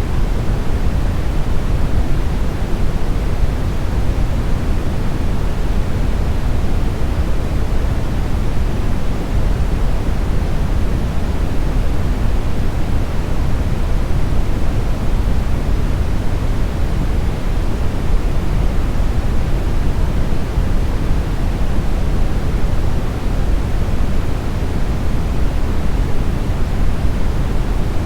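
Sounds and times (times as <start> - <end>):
brown noise hiss: 0.0 - 28.0.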